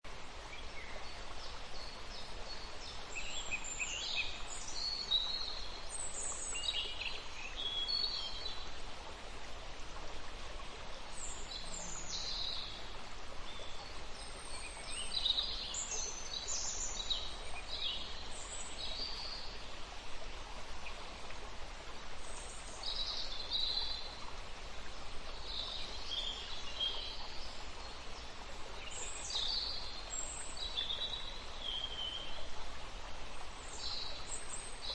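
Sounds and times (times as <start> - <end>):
steady background hiss: 0.1 - 34.9.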